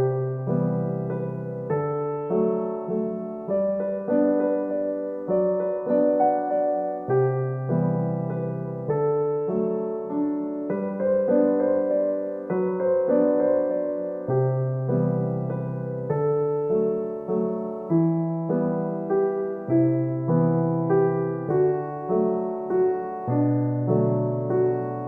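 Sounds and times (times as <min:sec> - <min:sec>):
gentle piano keyboard piece: 0:00.0 - 0:25.0.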